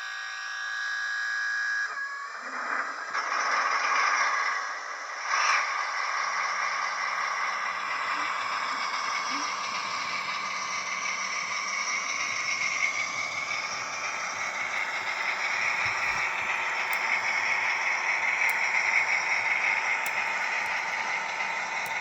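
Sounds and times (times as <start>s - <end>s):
model locomotive running on track: 0.0s - 22.0s.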